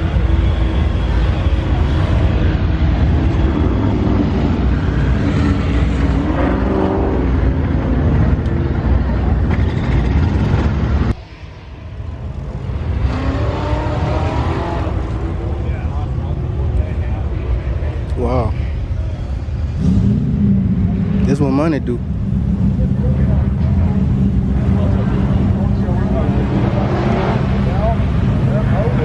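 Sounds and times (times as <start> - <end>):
car engines rumbling: 0.0 - 29.0.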